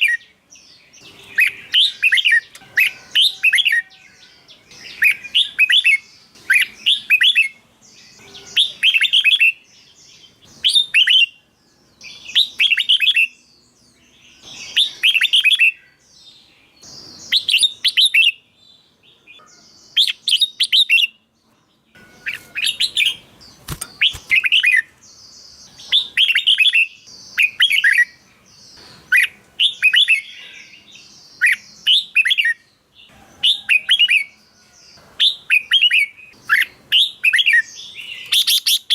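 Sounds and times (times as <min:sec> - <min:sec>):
bulbul warbling whistled song: 0:00.0 - 0:18.5, 0:19.2 - 0:21.3, 0:21.9 - 0:38.9
faint high bird chatter: 0:00.0 - 0:38.9.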